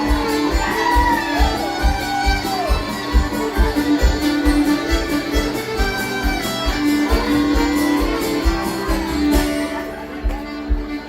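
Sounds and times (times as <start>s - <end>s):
fiddle: 0.0s - 11.0s
guitar: 0.0s - 11.0s.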